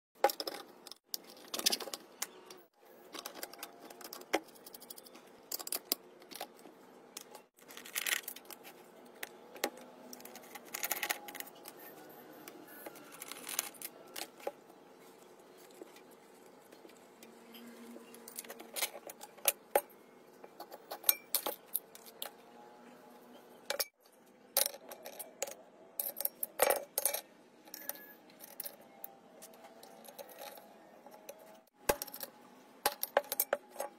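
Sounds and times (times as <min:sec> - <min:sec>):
metal parts and tools clinking: 0:00.2 - 0:14.6, 0:15.2 - 0:22.5, 0:23.7 - 0:33.9.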